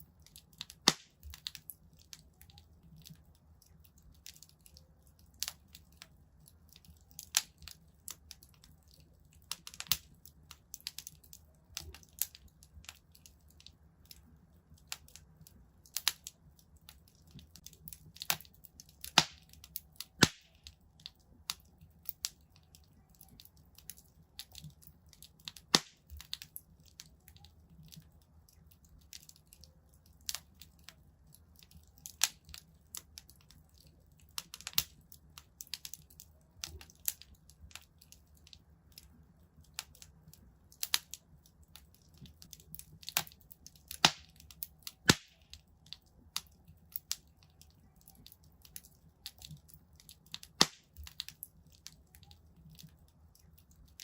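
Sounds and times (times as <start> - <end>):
low rumble of burning: 0.0 - 54.0
wood fire crackling and popping: 0.0 - 54.0.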